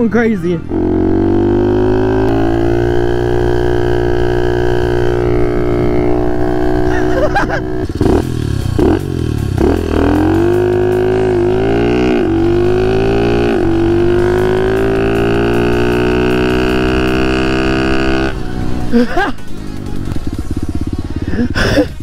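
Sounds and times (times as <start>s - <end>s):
small motorbike engine running: 0.7s - 22.0s.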